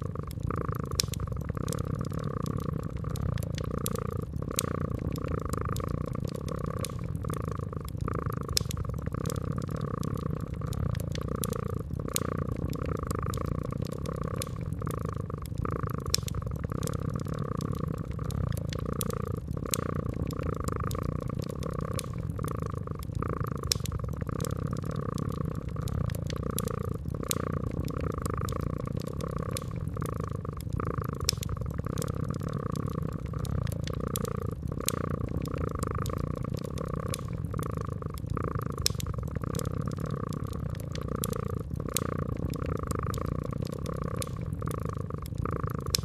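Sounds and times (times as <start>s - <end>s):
cat purring: 0.0s - 46.0s
wood fire crackling: 0.0s - 46.0s.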